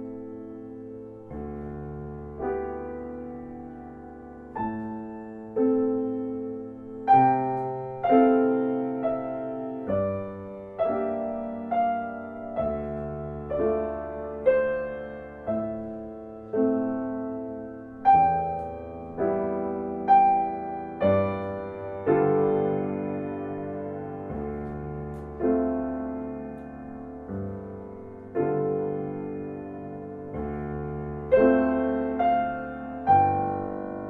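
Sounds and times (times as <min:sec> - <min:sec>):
slow solo piano: 0:00.0 - 0:34.0.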